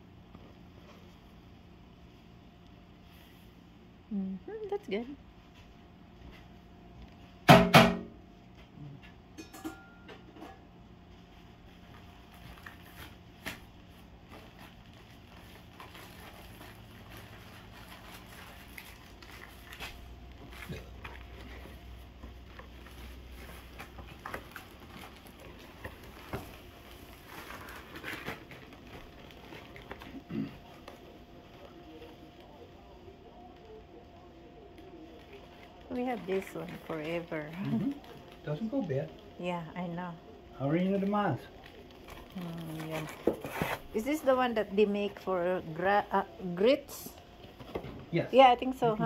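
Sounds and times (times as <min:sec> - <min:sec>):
food preparation handling sounds: 0:08.4 - 0:49.0.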